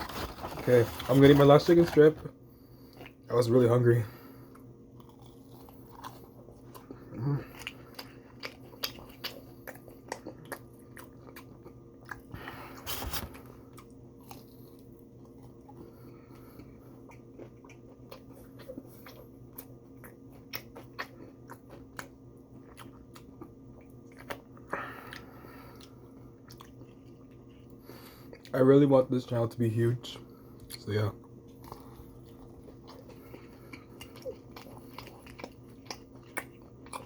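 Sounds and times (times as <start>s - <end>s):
chewing and crunching: 0.0s - 37.0s
steady low hum: 0.0s - 37.0s.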